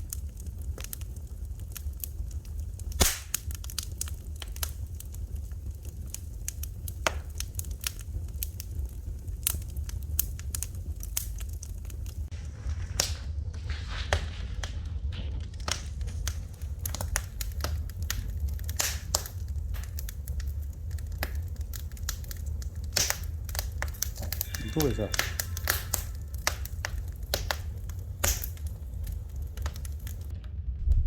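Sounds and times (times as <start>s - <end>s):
fire crackling and popping: 0.0s - 31.0s
soft hiss of fire: 0.0s - 31.0s.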